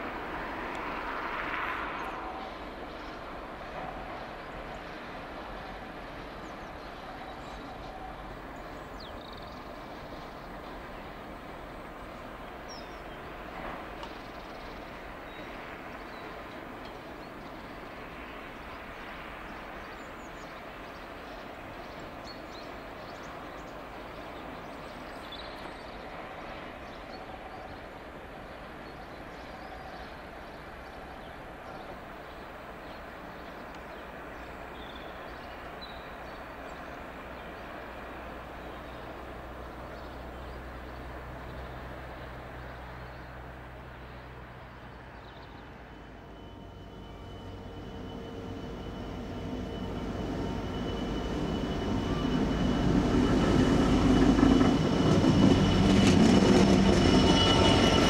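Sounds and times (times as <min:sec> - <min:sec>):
distant diesel locomotive engines: 0:00.0 - 0:58.0
train wheel noise: 0:00.0 - 0:58.0.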